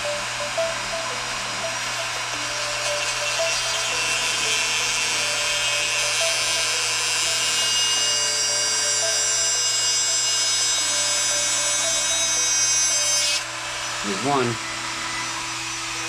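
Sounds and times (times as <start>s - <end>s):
cutting wheel grinding metal: 0.0s - 16.0s
rotary tool motor whine: 0.0s - 16.0s.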